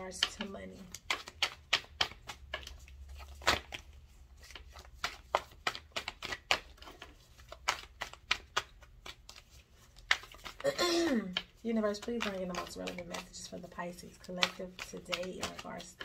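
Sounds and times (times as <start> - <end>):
cards being shuffled: 0.0 - 16.0.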